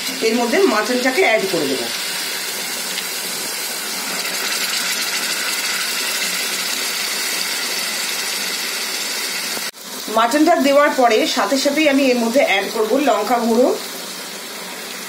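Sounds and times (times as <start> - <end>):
onion frying in oil sizzle: 0.0 - 15.0.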